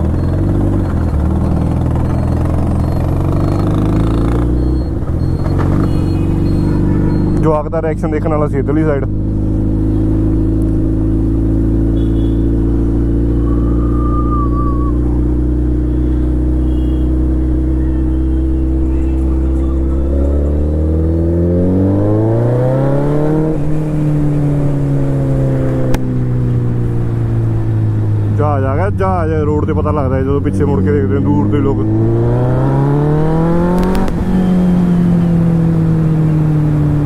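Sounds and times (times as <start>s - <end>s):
motorcycle engine revving: 0.0s - 28.4s, 29.6s - 37.0s.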